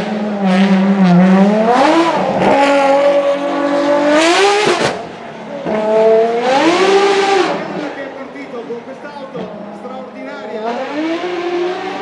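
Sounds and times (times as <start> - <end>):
car engine revving hard: 0.0 - 8.4, 9.3 - 12.0.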